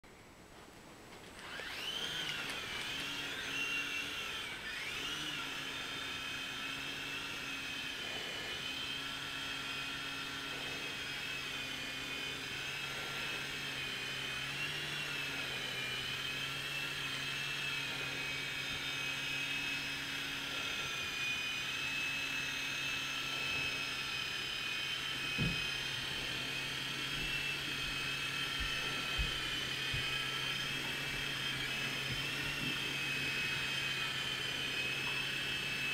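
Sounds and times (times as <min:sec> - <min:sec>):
model helicopter motor whine: 0:01.3 - 0:35.9.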